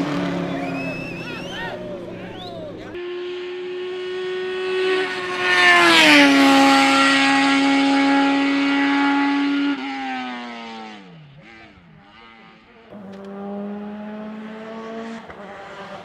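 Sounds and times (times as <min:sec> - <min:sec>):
race car passing at speed: 0:00.0 - 0:16.0.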